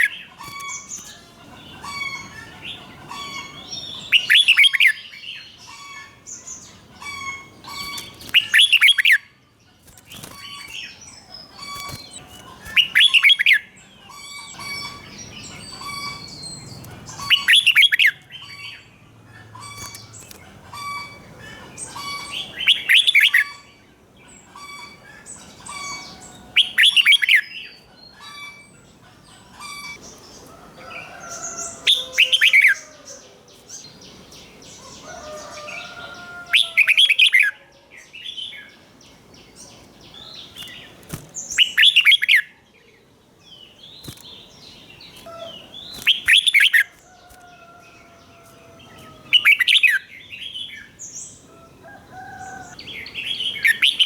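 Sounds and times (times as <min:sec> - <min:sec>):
bird warbling song: 0:00.0 - 0:54.0.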